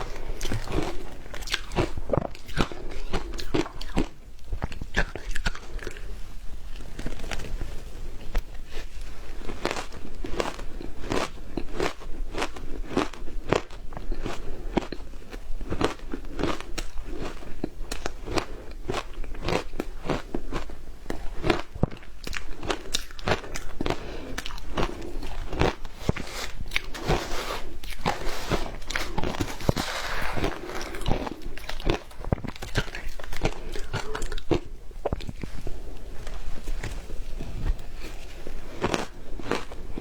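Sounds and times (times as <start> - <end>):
ice being bitten and chewed: 0.0 - 6.1, 8.2 - 40.0.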